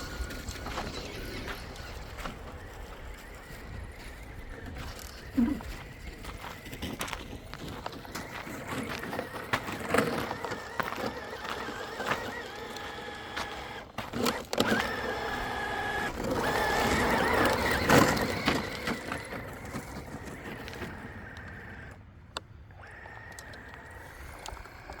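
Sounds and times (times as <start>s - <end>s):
rc car motor and gears whining: 0.0s - 25.0s.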